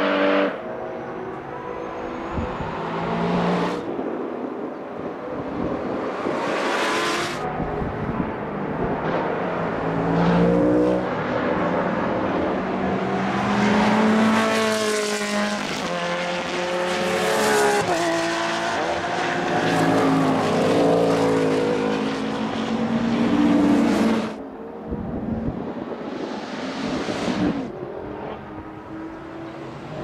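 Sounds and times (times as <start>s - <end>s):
race cars passing at high revs: 0.0s - 30.0s.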